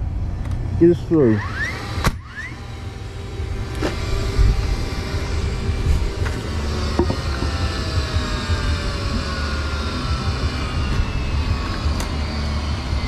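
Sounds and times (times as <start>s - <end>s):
low rumble with falling hum: 0.0s - 13.0s.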